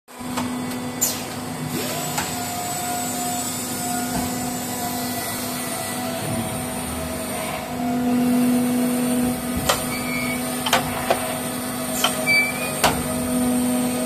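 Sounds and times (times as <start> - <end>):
press machine hum and hiss: 0.1 - 14.0.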